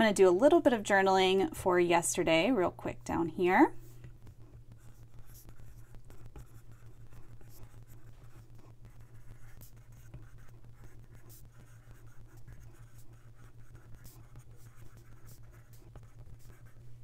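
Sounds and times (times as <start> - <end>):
stylus tapping on screen: 2.9 - 16.9.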